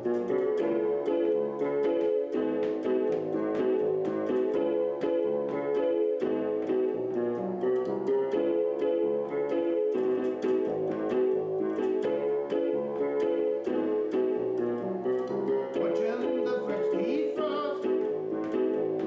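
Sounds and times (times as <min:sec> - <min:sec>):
electric piano playing: 0:00.0 - 0:19.0.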